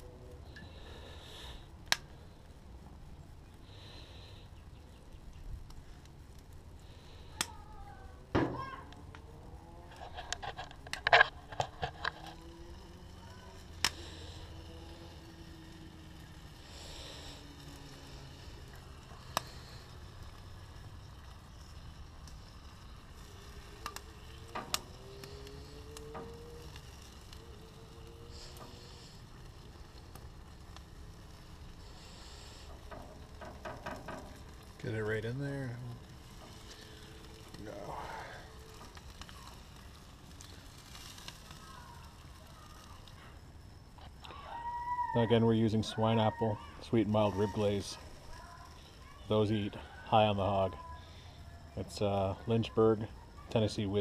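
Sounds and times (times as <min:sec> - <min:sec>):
meat sizzling on grill grates: 0:00.0 - 0:54.0.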